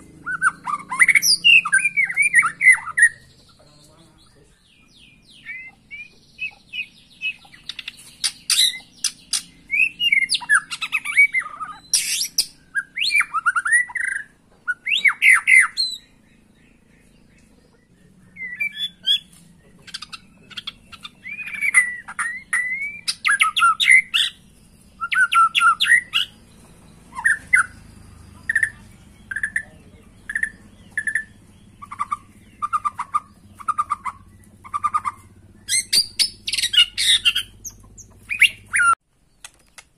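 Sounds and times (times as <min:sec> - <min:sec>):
bird singing whistled song: 0:00.0 - 0:03.5, 0:04.6 - 0:17.4, 0:18.2 - 0:39.0.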